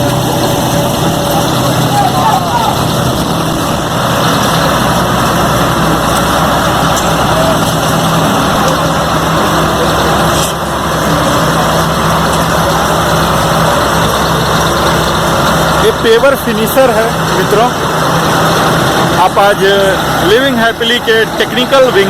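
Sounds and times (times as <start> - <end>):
diesel engine running under load: 0.0 - 22.0
machine clatter: 0.0 - 22.0.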